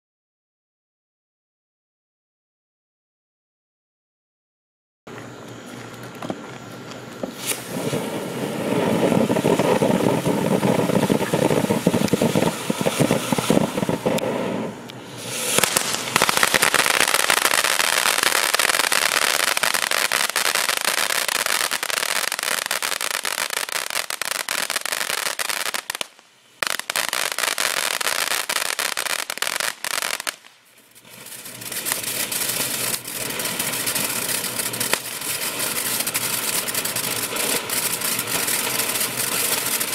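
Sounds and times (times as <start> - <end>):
firework fountain hissing: 5.2 - 39.9
firework rapid crackling: 6.8 - 39.9.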